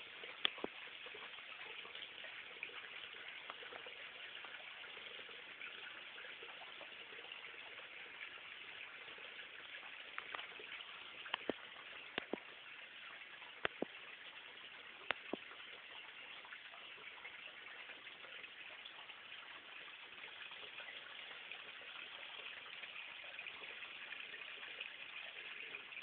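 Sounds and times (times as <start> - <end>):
water trickling: 0.0 - 26.0.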